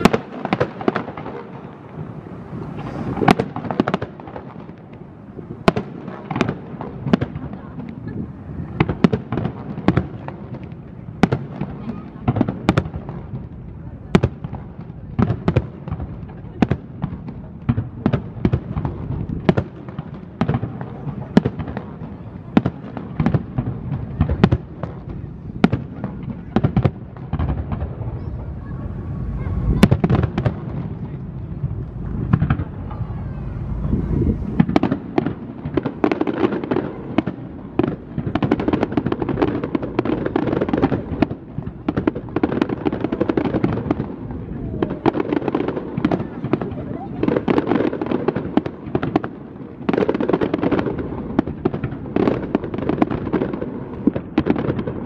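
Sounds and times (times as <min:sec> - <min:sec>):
heavy low firework boom: 0:00.0 - 0:49.3
fireworks crackling: 0:00.0 - 0:55.0.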